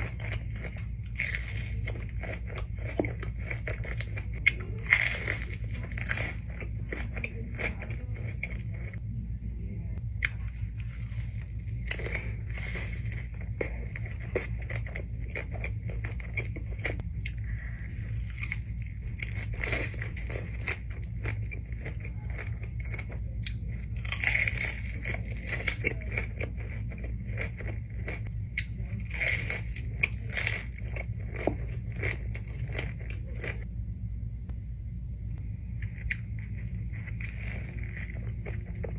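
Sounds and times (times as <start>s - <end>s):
crunchy bites and chewing: 0.0s - 9.0s, 10.1s - 33.7s, 35.7s - 38.9s
low hum: 0.0s - 38.9s.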